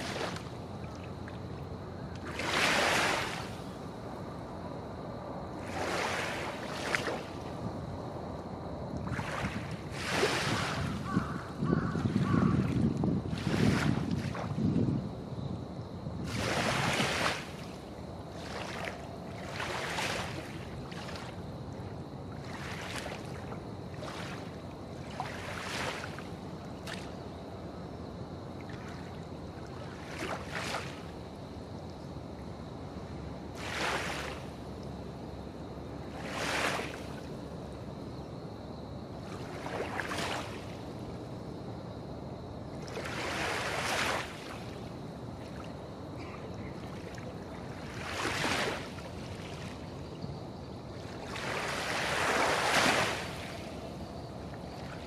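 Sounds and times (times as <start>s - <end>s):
waves lapping and splashing: 0.0s - 15.2s, 16.2s - 55.0s.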